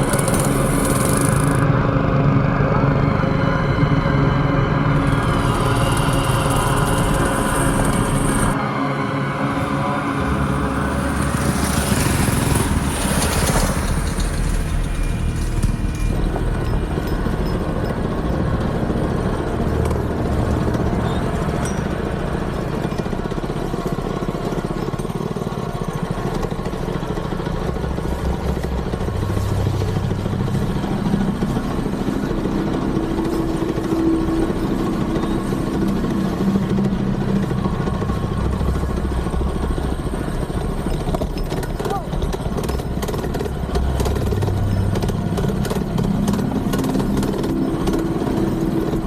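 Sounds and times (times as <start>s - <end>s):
mini bike engine running: 0.0s - 1.7s, 5.0s - 8.6s, 9.5s - 49.0s.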